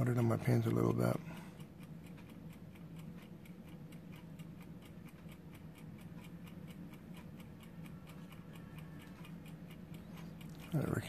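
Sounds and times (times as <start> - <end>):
low steady hum: 0.0 - 11.0
mechanical timer ticking: 0.0 - 11.0.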